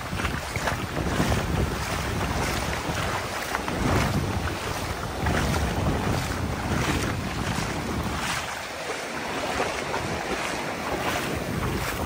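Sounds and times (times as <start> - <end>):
surf washing over sand: 0.0 - 12.0
wind buffeting microphone: 0.0 - 12.0.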